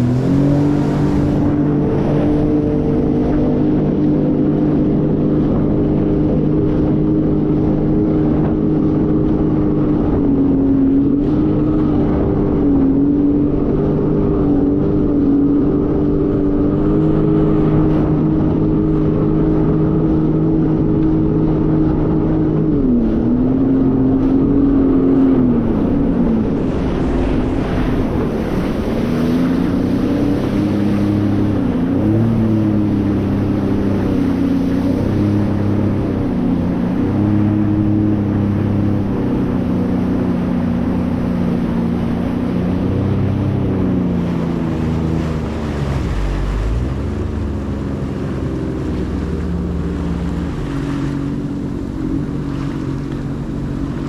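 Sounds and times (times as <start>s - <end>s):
jet ski engine running: 0.0s - 54.0s
wind and water rushing: 0.0s - 54.0s.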